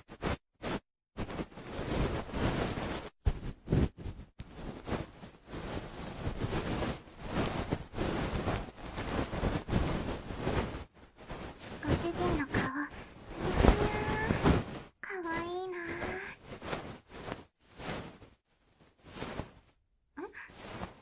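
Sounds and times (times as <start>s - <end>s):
swishing and rustling against ear: 0.0s - 21.0s.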